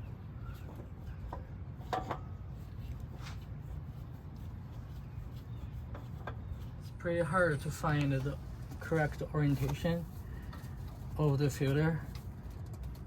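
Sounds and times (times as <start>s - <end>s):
oil filter clicking and scraping: 0.1s - 13.0s.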